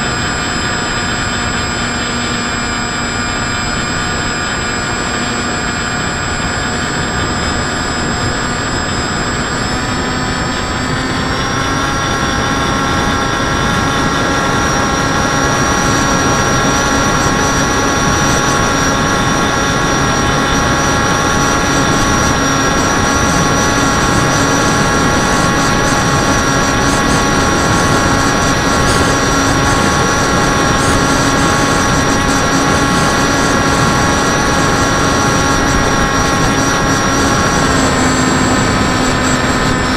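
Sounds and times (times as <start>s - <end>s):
model aircraft motor whine: 0.0s - 39.9s
rushing air noise: 0.0s - 39.9s.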